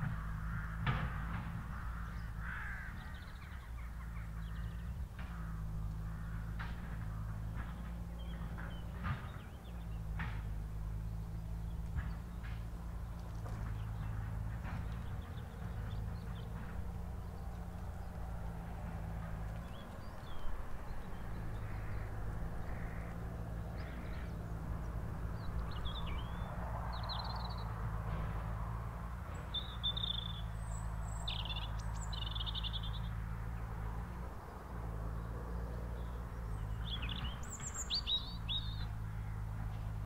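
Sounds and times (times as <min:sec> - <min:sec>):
small birds chirping: 0:01.7 - 0:40.0.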